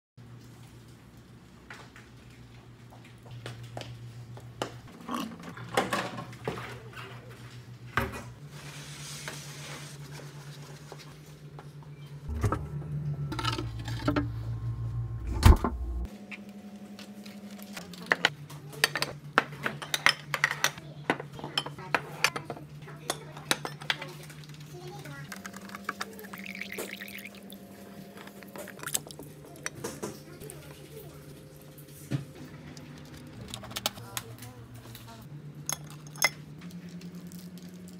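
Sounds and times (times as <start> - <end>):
steady low hum: 2.4 - 37.9.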